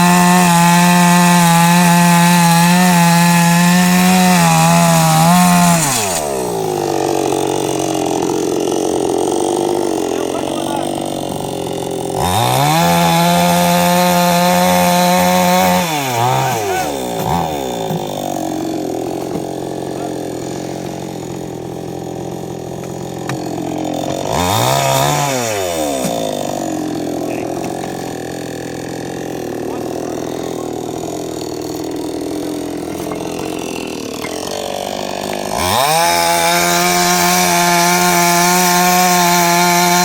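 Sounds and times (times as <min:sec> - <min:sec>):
chainsaw engine revving and idling: 0:00.0 - 0:40.0.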